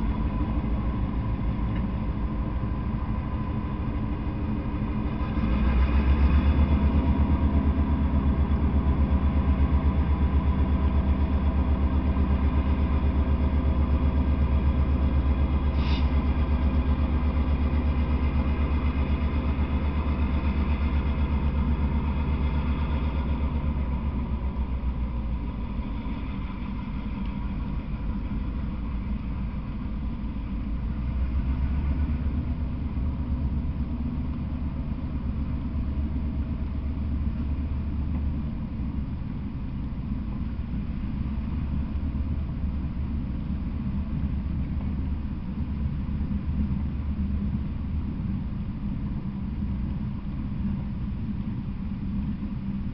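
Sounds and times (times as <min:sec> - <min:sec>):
diesel locomotive engine drone: 0:00.0 - 0:52.9
freight train rolling past: 0:00.0 - 0:52.9.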